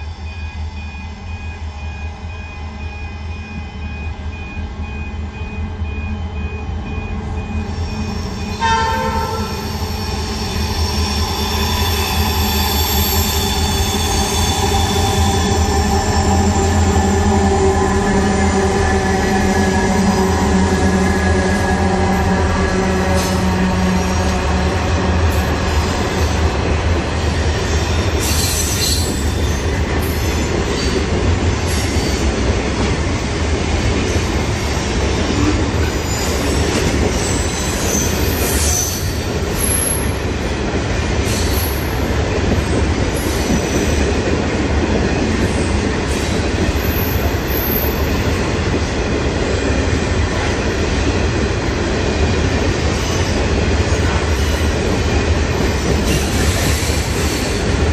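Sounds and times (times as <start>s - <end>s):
diesel locomotive engine: 0.0s - 57.9s
train wheels rumbling on rail: 0.0s - 57.9s.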